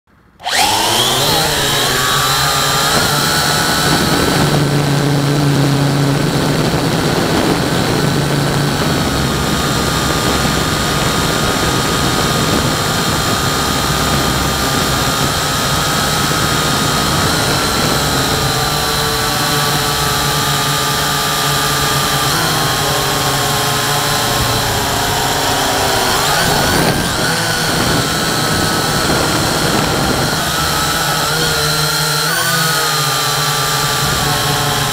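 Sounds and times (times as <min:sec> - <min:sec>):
drone propellers buzzing: 0:00.2 - 0:34.9.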